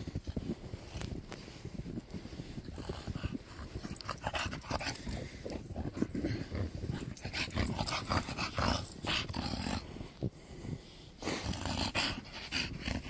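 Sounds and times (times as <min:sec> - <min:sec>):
dogs breathing and grunting: 0:00.0 - 0:13.0.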